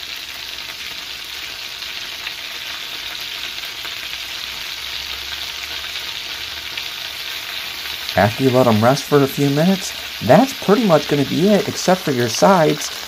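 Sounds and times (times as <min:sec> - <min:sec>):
meat sizzling in butter: 0:00.0 - 0:13.0.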